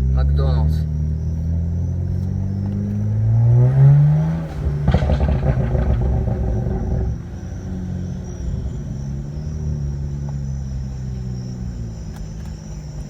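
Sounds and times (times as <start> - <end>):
car engine revving: 0.0 - 13.0
exhaust crackling and popping: 0.0 - 13.0.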